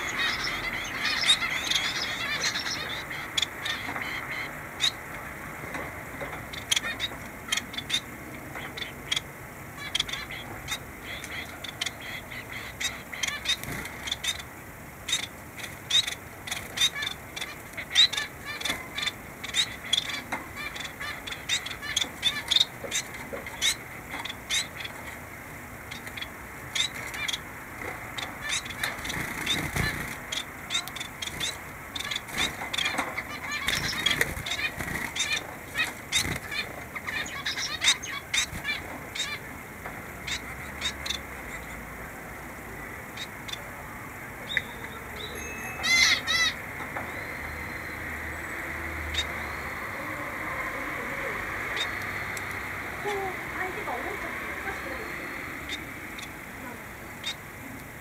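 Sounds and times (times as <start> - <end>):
finches calling: 0.0 - 39.6, 44.4 - 57.6.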